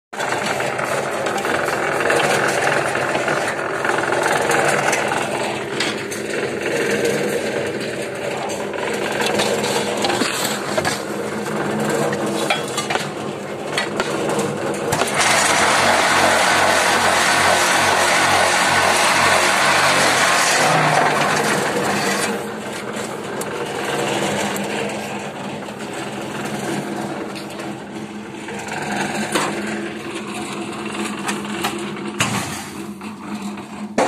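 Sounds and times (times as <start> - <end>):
machinery drone and clattering: 0.2 - 34.0.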